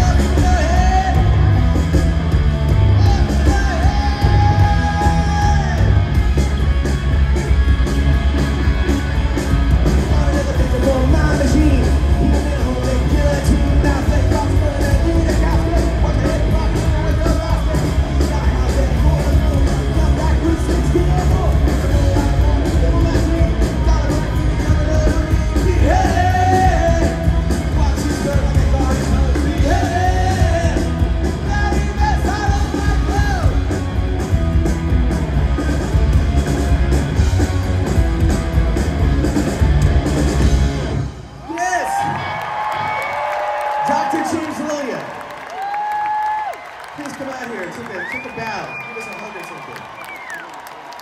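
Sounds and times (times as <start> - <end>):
distorted electric guitar: 0.0 - 41.4
bass guitar: 0.0 - 43.0
drums: 0.0 - 51.0.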